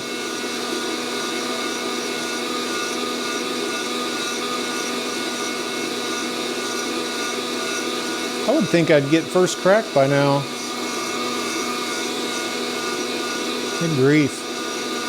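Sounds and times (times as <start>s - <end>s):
coffee roaster fan humming: 0.0s - 15.0s.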